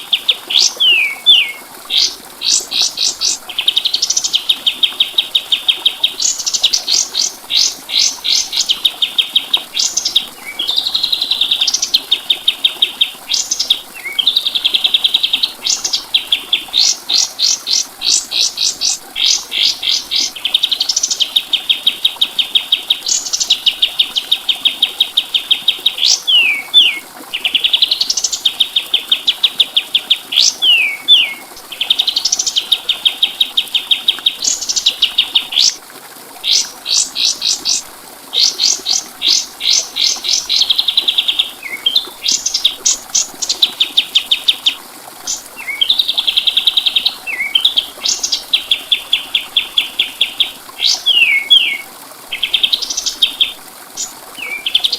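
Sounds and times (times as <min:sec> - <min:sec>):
songbird singing trills: 0:00.0 - 0:35.8, 0:38.4 - 0:54.9.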